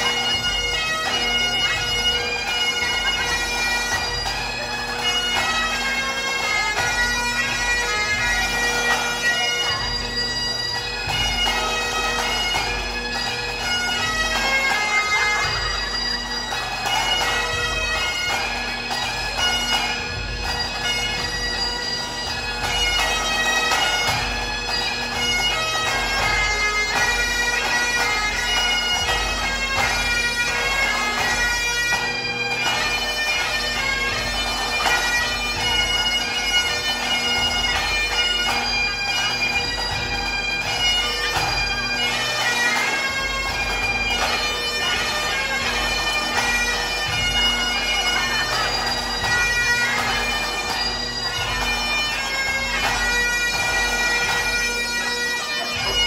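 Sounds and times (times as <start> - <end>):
bagpipe band playing: 0.0 - 56.0.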